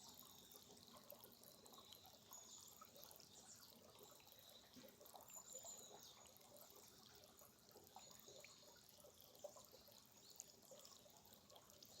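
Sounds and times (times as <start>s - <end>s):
stream trickling and dripping: 0.0s - 12.0s.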